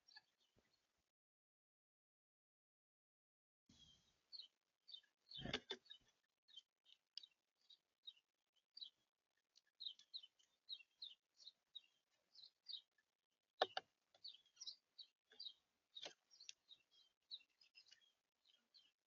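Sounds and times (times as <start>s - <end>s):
small birds chirping: 0.0s - 0.9s, 3.7s - 19.0s.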